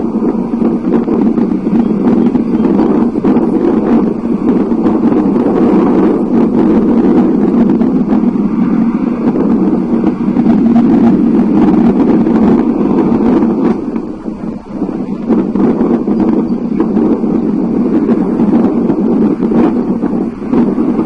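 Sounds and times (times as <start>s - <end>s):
storm rushing noise: 0.0s - 21.0s
wind buffeting microphone: 0.0s - 21.0s.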